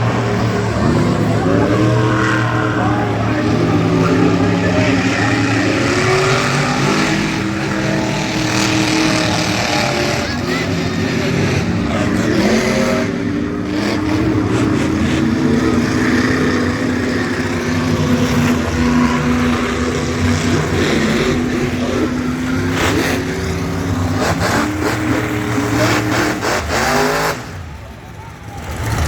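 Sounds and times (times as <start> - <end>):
truck engine at high revs: 0.0 - 29.0.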